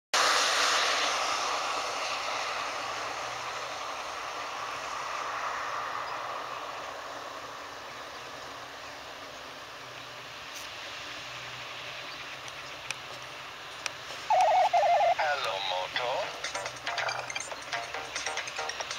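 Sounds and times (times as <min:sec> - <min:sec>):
passing vehicle: 0:00.2 - 0:18.9.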